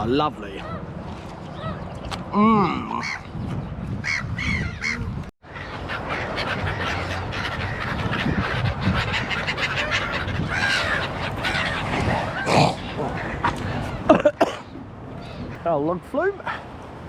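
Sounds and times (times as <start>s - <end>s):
noisy outdoor background: 0.0s - 17.0s
seagulls calling: 0.1s - 16.6s.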